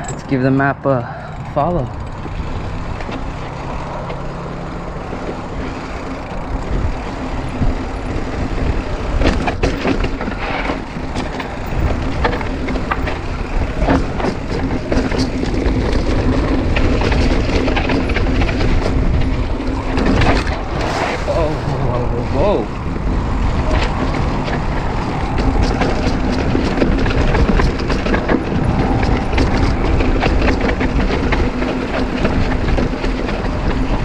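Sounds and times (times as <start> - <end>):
bike clacking and rattling: 0.0 - 21.2, 22.1 - 34.0
bike tyre noise: 0.0 - 34.0
wind rumble on microphone: 1.9 - 34.0.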